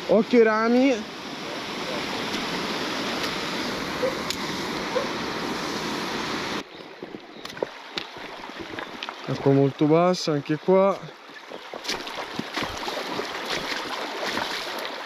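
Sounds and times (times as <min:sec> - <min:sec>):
stream pouring over cascade: 0:00.0 - 0:15.0.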